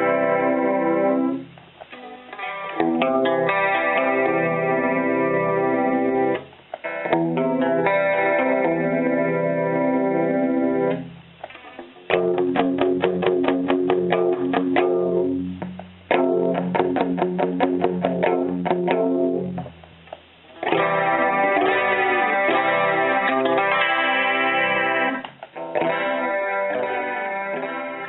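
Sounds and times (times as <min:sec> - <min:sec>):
electric guitar chords: 0:00.0 - 0:28.0.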